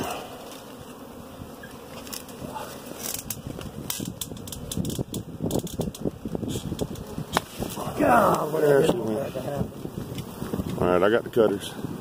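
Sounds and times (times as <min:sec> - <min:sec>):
branch and stiff leaves rustling: 0:00.0 - 0:11.6.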